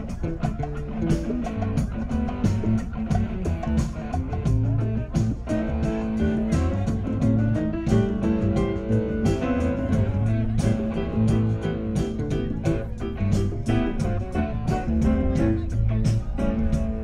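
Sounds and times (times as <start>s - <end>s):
electric guitar: 0.0s - 17.0s
live band playing: 0.0s - 17.0s.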